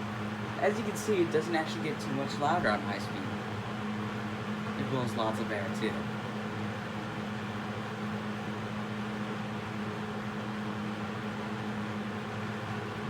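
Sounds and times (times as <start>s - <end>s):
box fan rushing air: 0.0s - 13.0s
fan motor hum: 0.0s - 13.0s.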